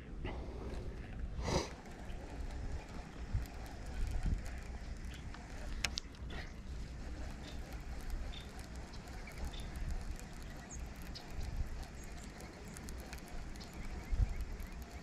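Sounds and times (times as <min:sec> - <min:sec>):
wind rumble on microphone: 0:00.1 - 0:15.0
fishing reel clicking: 0:01.0 - 0:06.2, 0:06.8 - 0:15.0.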